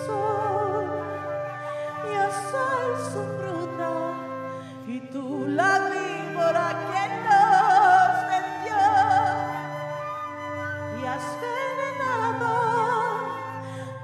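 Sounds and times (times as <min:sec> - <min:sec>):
person singing opera-like: 0:00.0 - 0:14.0.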